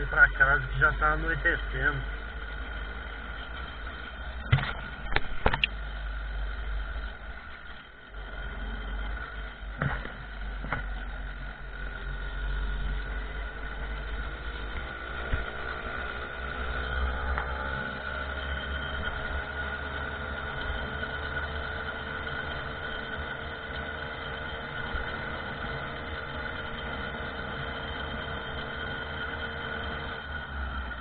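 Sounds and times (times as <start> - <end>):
two-stroke moped engine running: 0.0 - 31.0.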